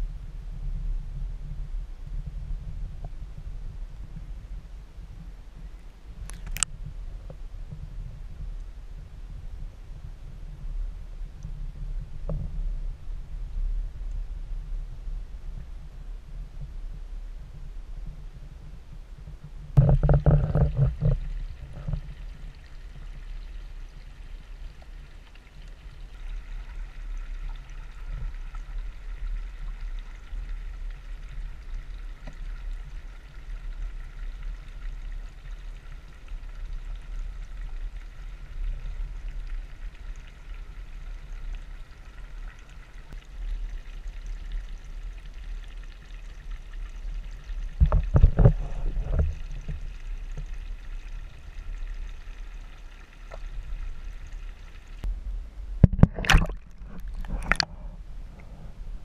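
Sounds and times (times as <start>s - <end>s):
muffled underwater rumble: 0.0s - 59.0s.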